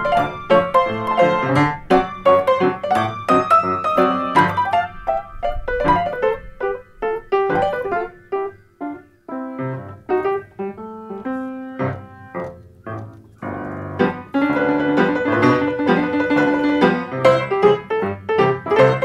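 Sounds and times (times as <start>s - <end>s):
ragtime piano: 0.0s - 19.0s.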